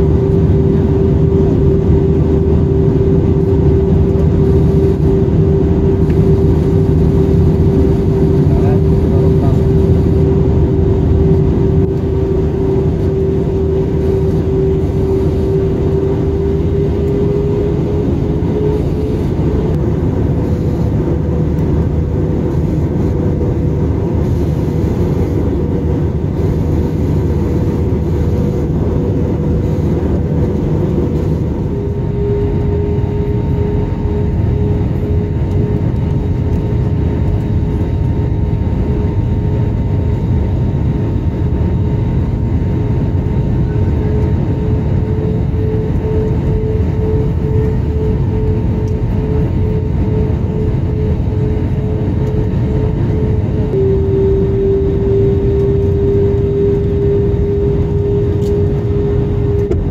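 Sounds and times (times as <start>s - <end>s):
airplane cabin roar: 0.0s - 59.9s
humming engine tone: 0.0s - 59.9s.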